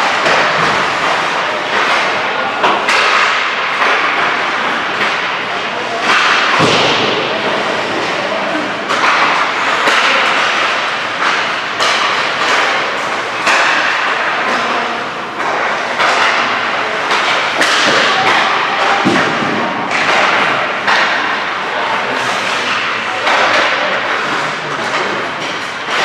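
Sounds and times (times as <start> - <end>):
pucks and players hitting boards: 0.0 - 26.0.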